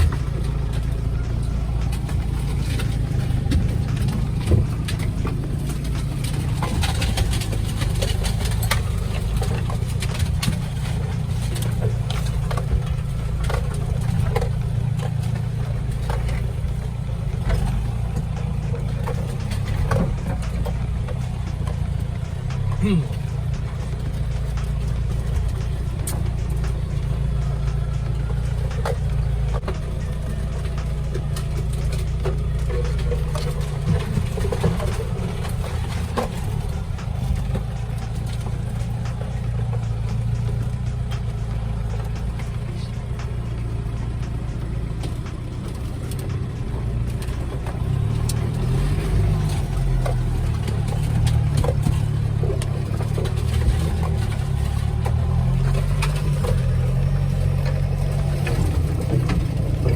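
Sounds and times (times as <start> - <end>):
off-road vehicle engine running: 0.0 - 59.9
vehicle knocks and rattles: 0.0 - 59.9.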